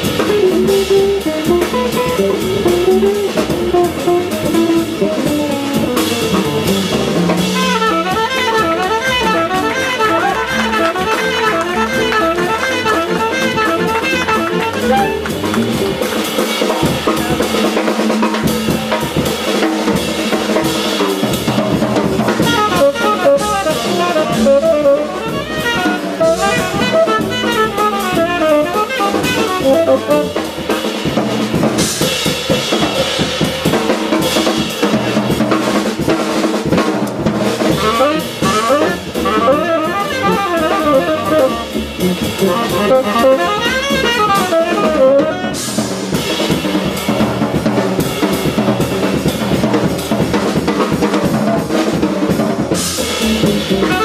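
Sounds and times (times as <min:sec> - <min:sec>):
drum kit: 0:00.0 - 0:54.0
live jazz band playing: 0:00.0 - 0:54.0.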